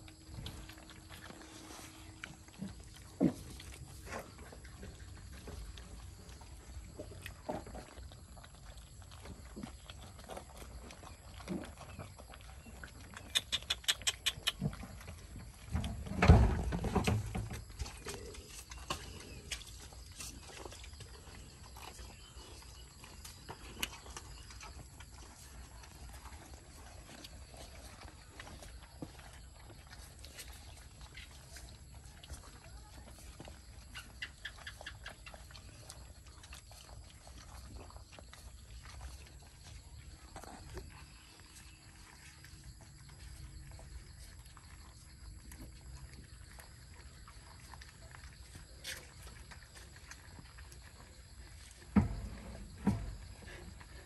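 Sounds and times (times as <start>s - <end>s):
puppies snuffling and scrabbling: 0.0s - 54.0s.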